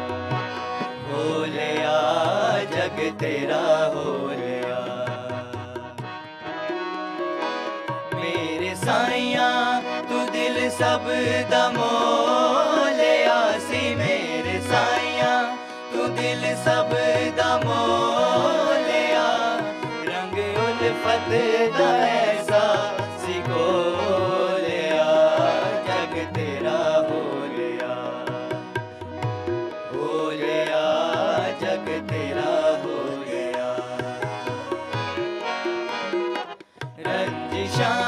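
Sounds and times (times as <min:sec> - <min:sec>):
man singing: 0:00.0 - 0:06.0, 0:08.1 - 0:28.7, 0:29.9 - 0:35.0, 0:37.0 - 0:38.0
tabla: 0:00.0 - 0:38.0.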